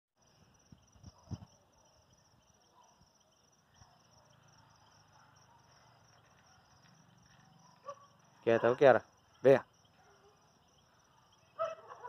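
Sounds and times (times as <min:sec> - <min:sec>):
crickets chirring: 0:00.2 - 0:12.0.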